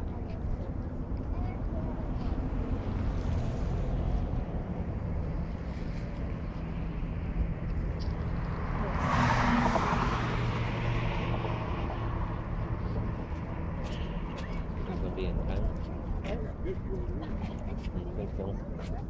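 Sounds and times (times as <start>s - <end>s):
vehicle passing: 1.5s - 18.5s.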